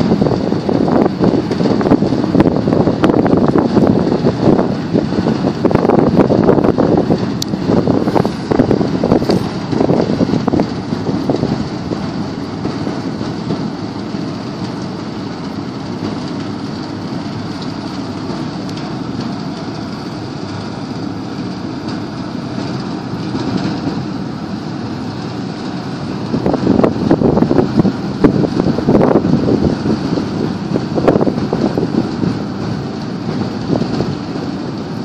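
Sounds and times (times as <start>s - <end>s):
small boat engine drone: 0.0s - 35.0s.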